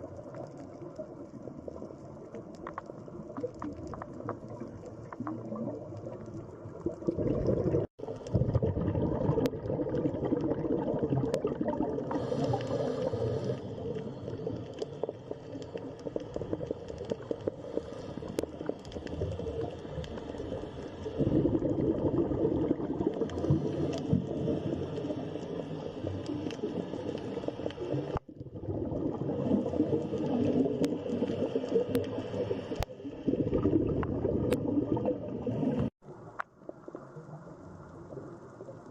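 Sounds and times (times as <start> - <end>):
underwater gurgling and bubbling: 0.0 - 38.9.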